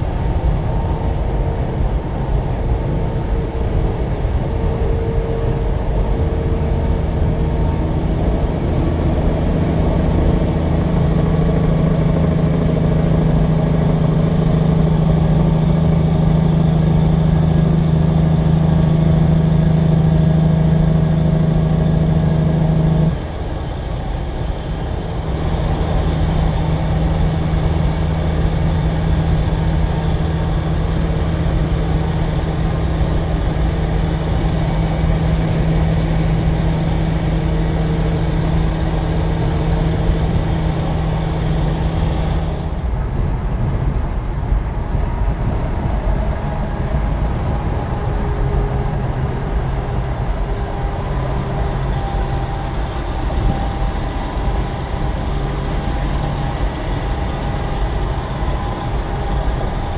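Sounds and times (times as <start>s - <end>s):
truck diesel drone: 0.0s - 59.9s.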